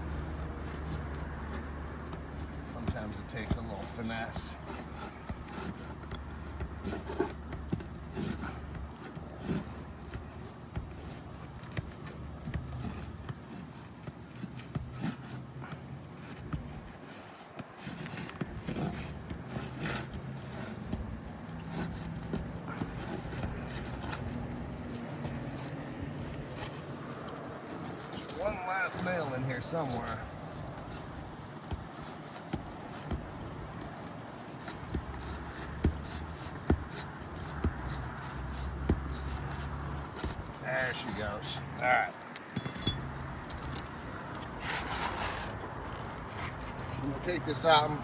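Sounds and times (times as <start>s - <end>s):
shingle ripper scraping and prying: 0.0s - 48.0s.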